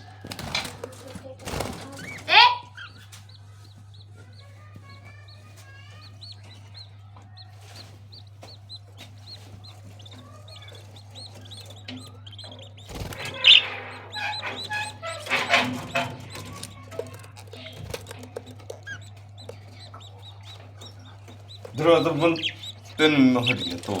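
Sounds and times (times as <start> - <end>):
parrot chicks chirping: 0.0 - 24.0
steady low hum: 0.0 - 24.0.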